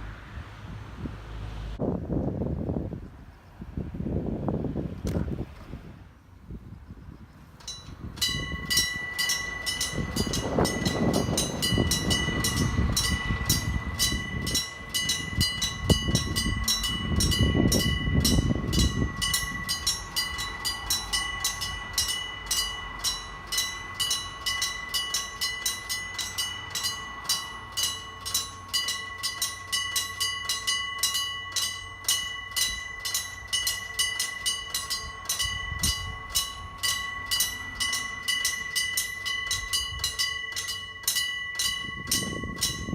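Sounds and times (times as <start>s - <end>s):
passing traffic rumble: 0.0s - 42.9s
level crossing bells ringing: 7.6s - 42.9s.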